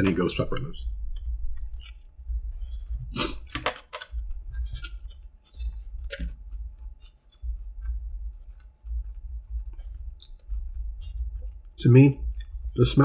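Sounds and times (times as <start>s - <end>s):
low steady hum: 0.0s - 13.0s
person chewing crunchy food: 1.1s - 12.7s.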